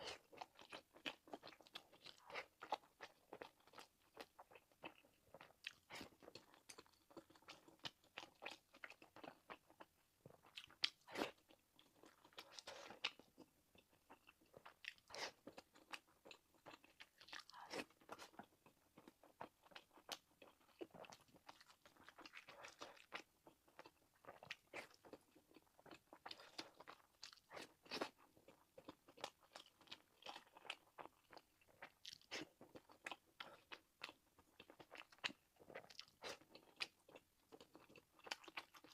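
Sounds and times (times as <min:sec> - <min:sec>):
person chewing and biting food: 0:00.0 - 0:38.9.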